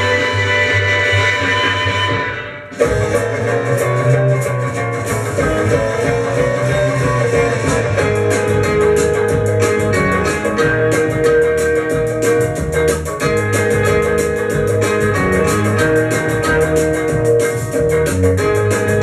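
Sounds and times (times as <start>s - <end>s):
rock and roll music: 0.0s - 19.0s.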